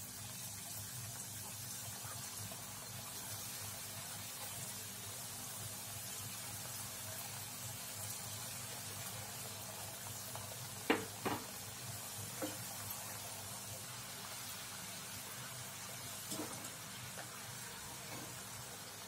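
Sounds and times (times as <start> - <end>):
oil sizzling and bubbling: 0.0 - 19.0.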